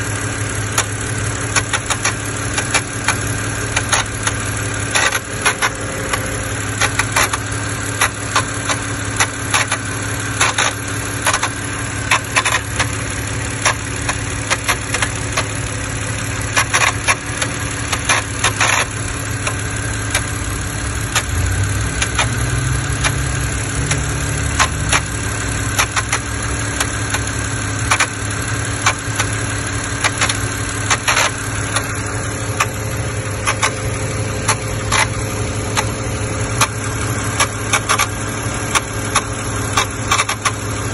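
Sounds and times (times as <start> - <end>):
car engine idling: 0.0 - 40.9
engine ticking and clicking: 0.0 - 40.9.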